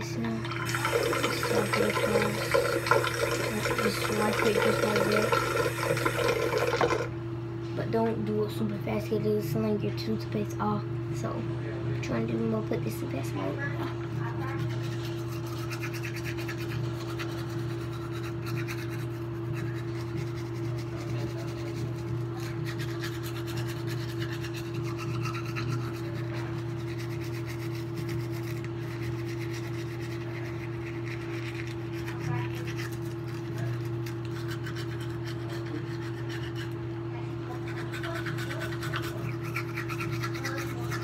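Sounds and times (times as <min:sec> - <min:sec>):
electric toothbrush motor hum: 0:00.0 - 0:07.2, 0:14.4 - 0:41.0
toothbrush scratchy brushing: 0:00.7 - 0:07.1, 0:14.2 - 0:41.0.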